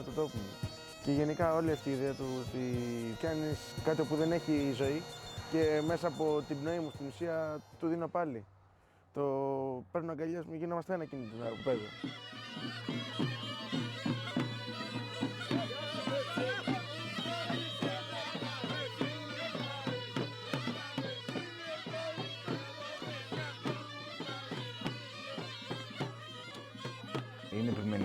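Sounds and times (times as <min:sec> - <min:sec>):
steady drum beat: 0:00.0 - 0:07.7, 0:12.1 - 0:28.0
bagpipe playing a lively folk tune: 0:00.0 - 0:08.0, 0:11.1 - 0:28.0.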